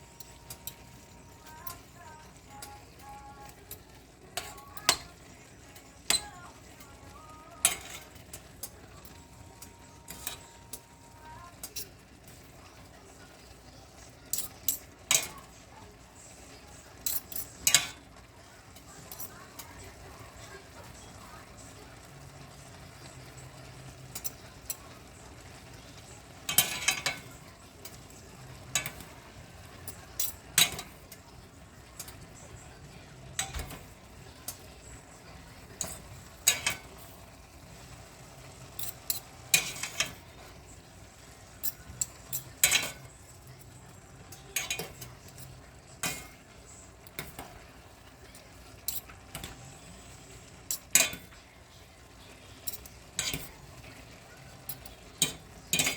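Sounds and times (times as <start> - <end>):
faint sizzle: 0.0 - 55.9.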